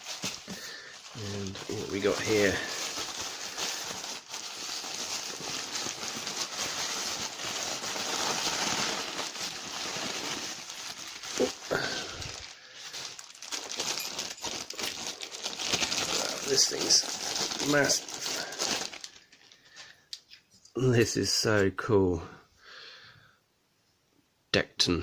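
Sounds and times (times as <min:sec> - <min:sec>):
packaging rustling and crinkling: 0:00.0 - 0:20.5.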